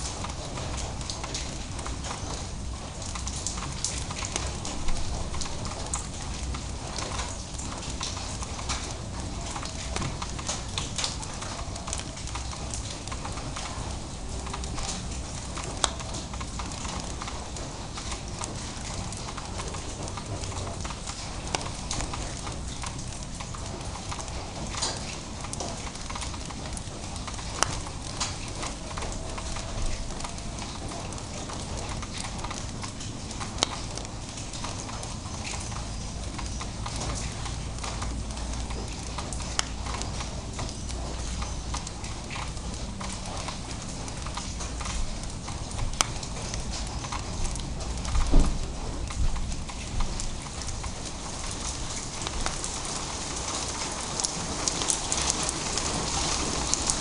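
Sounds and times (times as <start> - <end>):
steady hiss of rain: 0.0 - 57.0.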